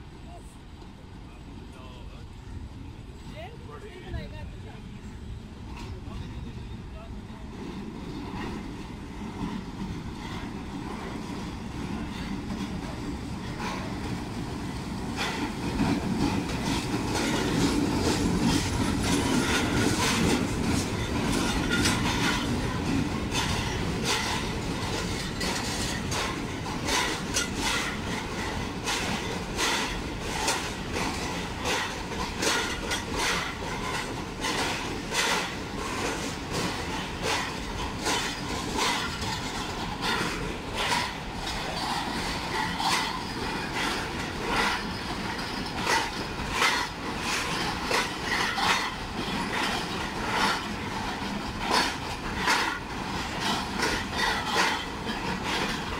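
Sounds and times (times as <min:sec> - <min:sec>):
diesel locomotive engine: 0:00.0 - 0:55.9
train wheels clickety-clack: 0:00.0 - 0:55.9.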